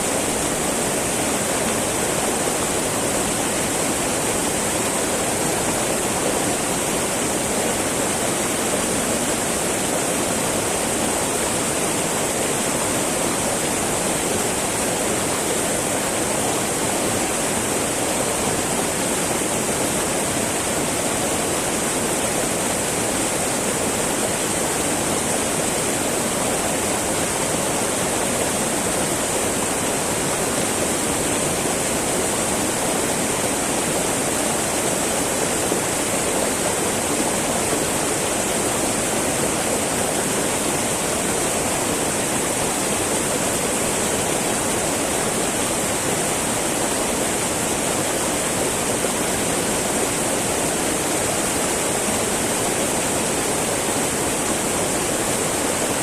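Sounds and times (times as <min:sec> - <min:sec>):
river babbling over rocks: 0:00.0 - 0:56.0.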